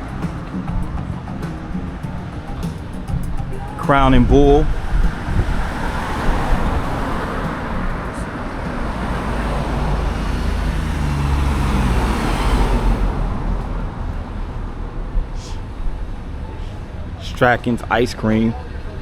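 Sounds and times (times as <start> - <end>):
low engine hum: 0.0 - 17.2
car engines passing: 0.0 - 19.0.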